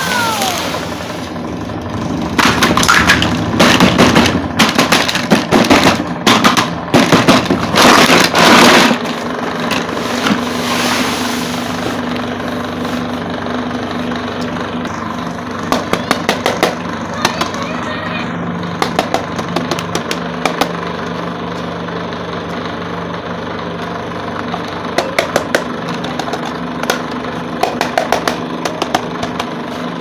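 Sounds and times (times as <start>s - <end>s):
low hum: 0.0s - 27.6s.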